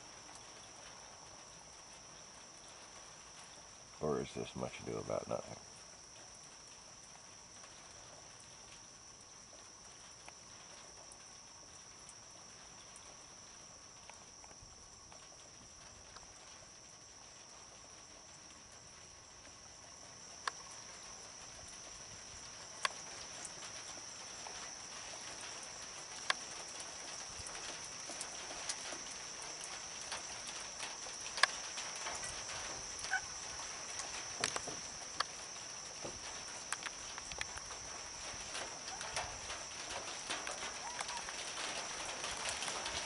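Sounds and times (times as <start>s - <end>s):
night insects buzzing: 0.0s - 43.0s.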